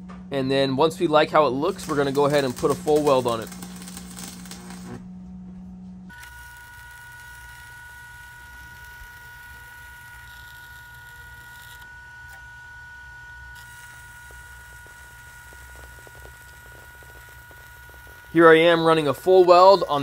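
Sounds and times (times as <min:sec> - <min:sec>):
steady high whine: 0:00.0 - 0:20.0
welding arc crackling: 0:00.8 - 0:05.1, 0:06.1 - 0:12.5, 0:13.4 - 0:20.0.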